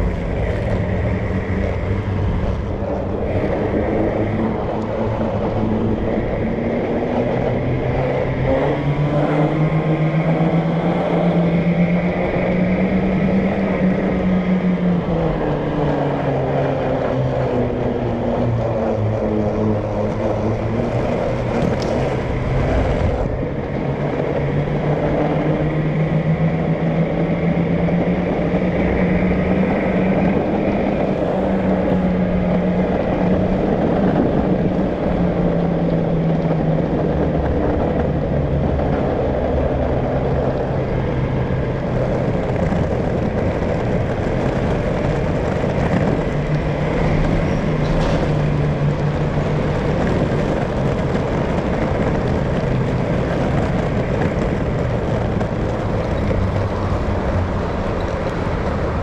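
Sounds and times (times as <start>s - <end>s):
road rumble: 0.0s - 59.0s
traffic engine hum: 0.0s - 59.0s.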